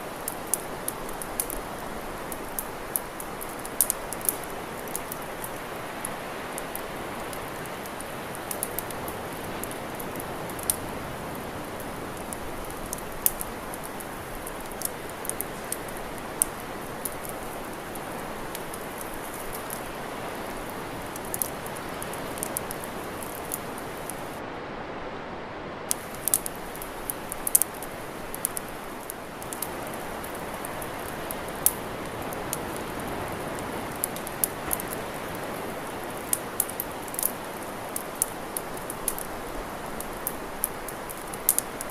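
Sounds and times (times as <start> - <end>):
campfire crackling: 0.0 - 24.4, 25.9 - 41.9
steady rushing hiss: 0.0 - 24.4, 25.7 - 41.9.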